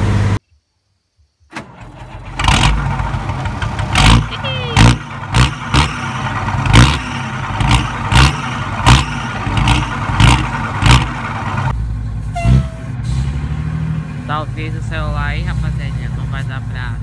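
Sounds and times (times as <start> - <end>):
diesel truck engine revving and idling: 0.0 - 0.4, 1.6 - 17.0.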